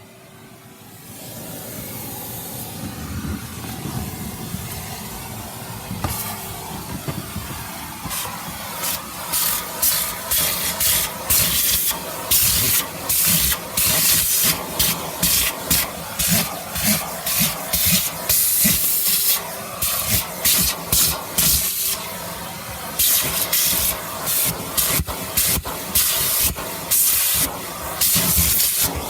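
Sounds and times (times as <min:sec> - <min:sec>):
vacuum cleaner running: 0:00.0 - 0:29.0
vacuum nozzle scrubbing carpet: 0:01.1 - 0:29.0.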